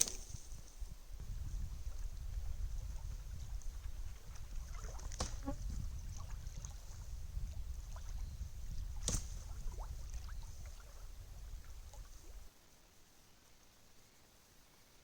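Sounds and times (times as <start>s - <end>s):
wind rumble on microphone: 0.0s - 12.5s.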